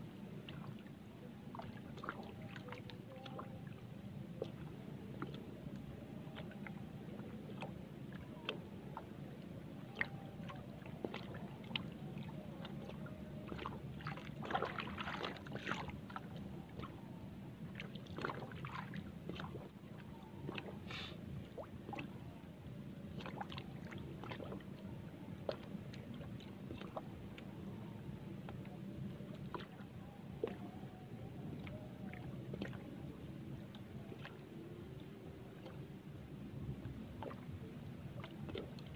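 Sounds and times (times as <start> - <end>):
steady low hum: 0.0 - 38.9
water lapping against boat: 0.0 - 38.9.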